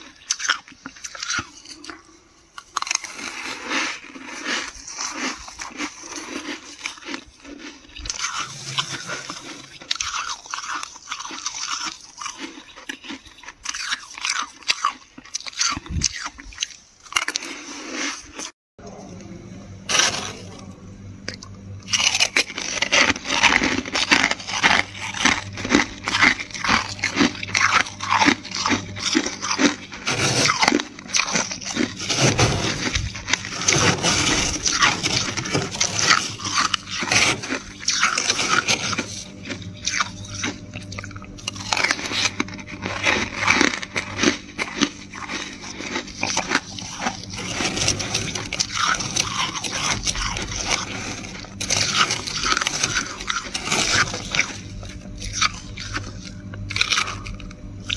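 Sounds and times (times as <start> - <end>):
freezer frost crunching: 0.0 - 19.2, 19.8 - 57.9.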